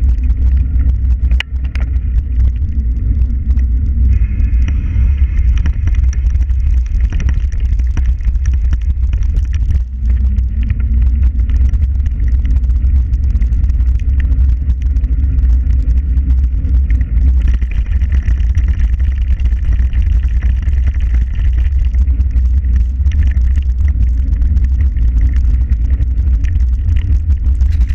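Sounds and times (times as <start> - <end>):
small rattles and knocks: 0.0 - 2.8, 3.4 - 27.9
wind buffeting microphone: 0.0 - 27.9.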